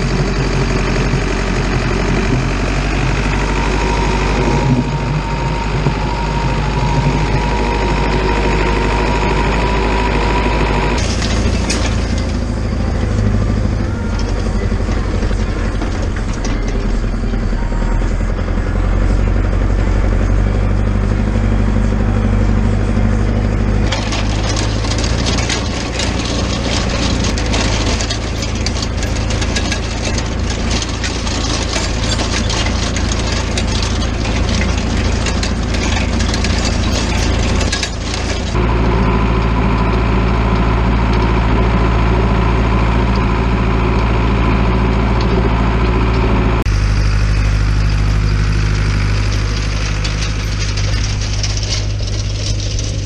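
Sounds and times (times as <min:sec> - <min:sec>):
diesel tractor engine under load: 0:00.0 - 0:53.0
harrow frame and tines rattling: 0:00.0 - 0:53.0.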